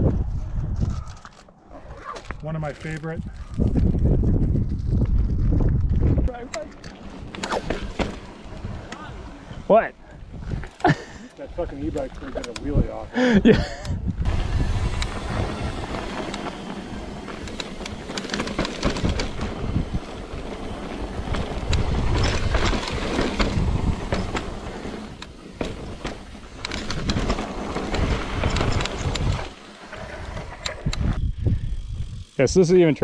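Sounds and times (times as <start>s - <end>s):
wind buffeting microphone: 0.0s - 1.2s, 3.1s - 10.8s, 11.5s - 32.7s
bike tyre rumble: 0.0s - 33.0s
bike clicks and rattles: 0.5s - 33.0s.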